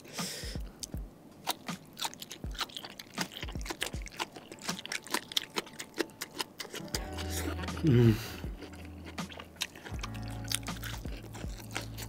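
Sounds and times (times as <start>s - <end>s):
close chewing and crunching: 0.8s - 12.0s.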